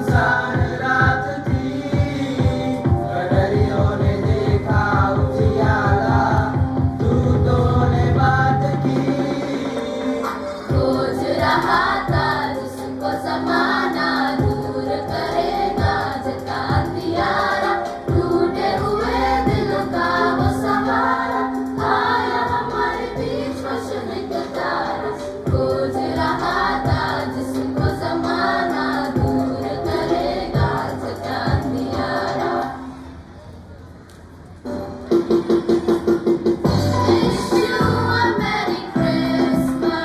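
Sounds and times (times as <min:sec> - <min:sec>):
accompaniment with steady beat: 0:00.0 - 0:32.8, 0:34.7 - 0:40.0
girls' choir singing in unison: 0:00.0 - 0:33.0, 0:36.7 - 0:40.0.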